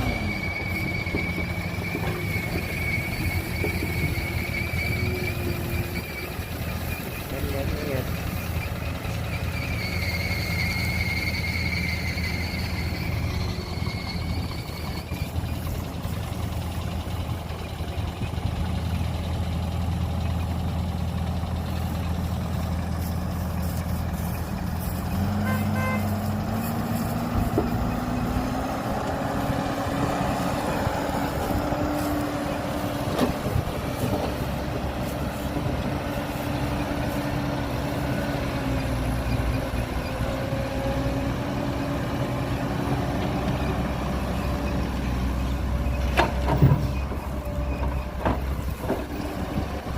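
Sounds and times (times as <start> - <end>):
heavy diesel engine: 0.0 - 49.9.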